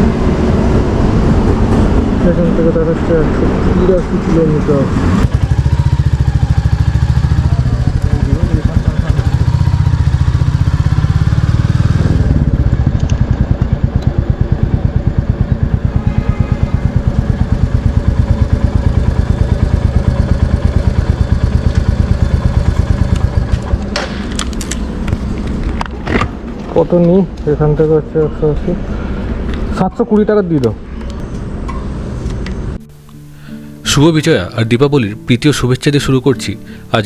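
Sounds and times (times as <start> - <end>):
motorcycle engine running: 0.0 - 26.7, 32.7 - 37.0.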